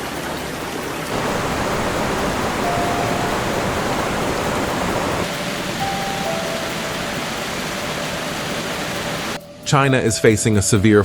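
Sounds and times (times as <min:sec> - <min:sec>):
rushing floodwater: 0:00.0 - 0:09.4.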